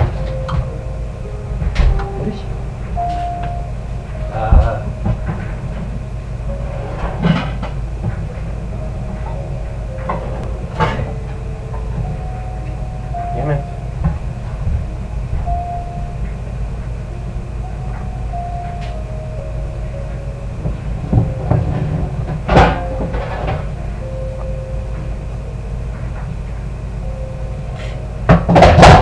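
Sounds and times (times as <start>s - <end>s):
faint piano notes: 0.0s - 29.0s
steady low rumble: 0.0s - 29.0s.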